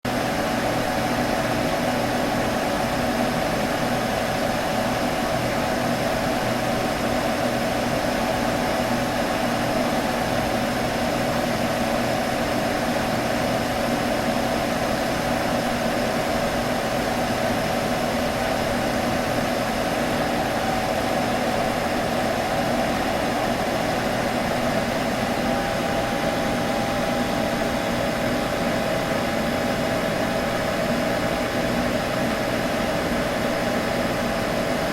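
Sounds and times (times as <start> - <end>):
computer electrical hum: 0.1 - 34.9.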